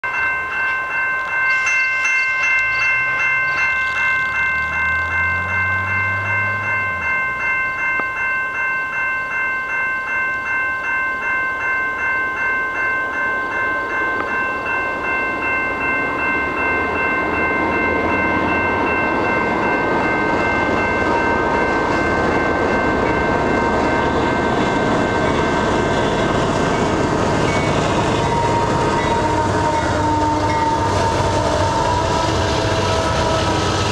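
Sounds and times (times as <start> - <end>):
train bell ringing: 0.0 - 33.9
freight train rumbling past: 0.2 - 33.9.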